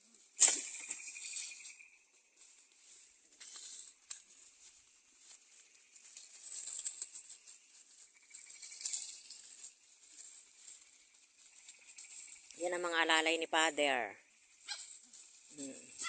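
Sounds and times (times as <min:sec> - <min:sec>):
dry rustling and scratching: 0:00.0 - 0:16.0.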